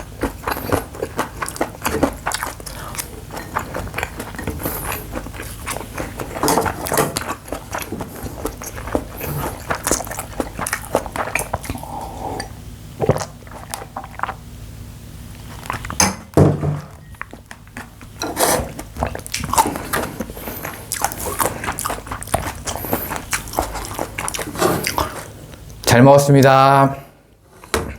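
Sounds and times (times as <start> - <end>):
wet chewing and mouth sounds: 0.0 - 25.9.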